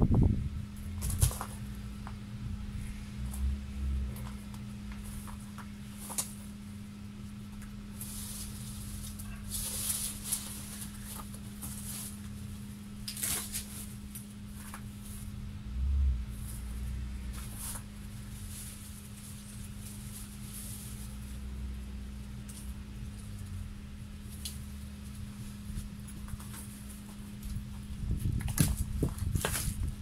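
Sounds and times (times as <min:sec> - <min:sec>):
dry branches rustling and crackling: 0:00.0 - 0:30.0
steady low hum: 0:00.0 - 0:30.0.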